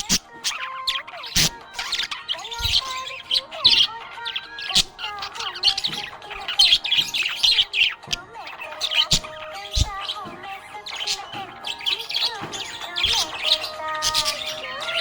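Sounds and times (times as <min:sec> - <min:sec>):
budgerigar chirping: 0:00.0 - 0:15.0.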